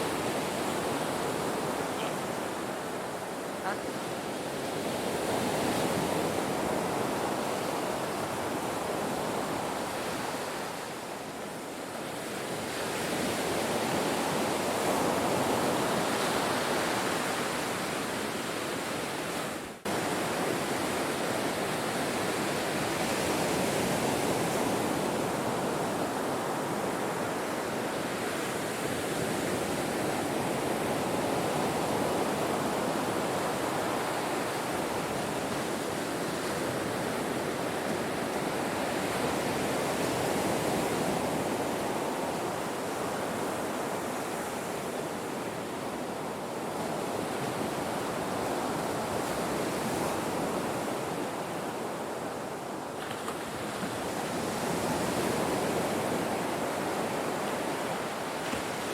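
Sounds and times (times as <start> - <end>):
ocean waves breaking on shore: 0.0 - 58.9.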